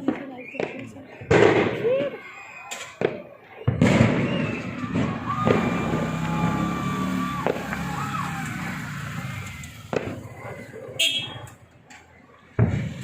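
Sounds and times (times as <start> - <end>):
firework bang: 0.0 - 2.2, 2.9 - 11.5, 12.5 - 13.0
fireworks crackling and popping: 0.0 - 13.0.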